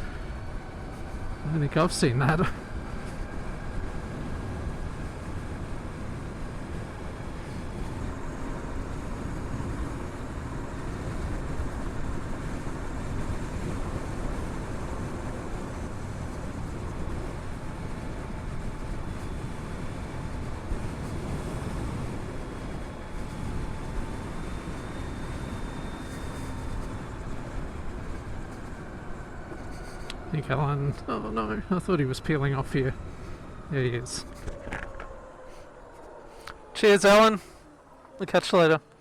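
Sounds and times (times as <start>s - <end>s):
faint steady tones: 0.0s - 39.0s
wind and road noise: 0.0s - 39.0s.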